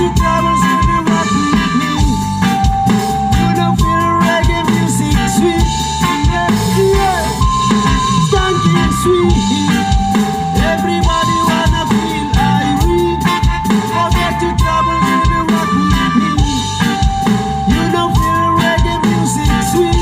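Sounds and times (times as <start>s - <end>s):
reggae band instrumental: 0.0s - 20.0s.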